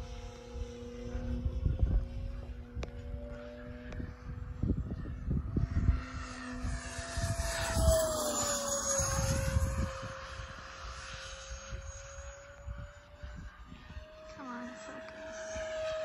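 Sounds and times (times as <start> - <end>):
model jet fan whining past: 0.0 - 16.0.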